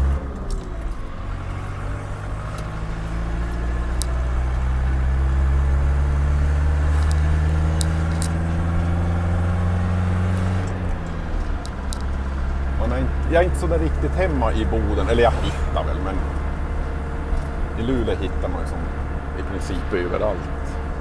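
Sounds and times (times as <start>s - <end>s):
van engine and road noise: 0.0s - 21.0s.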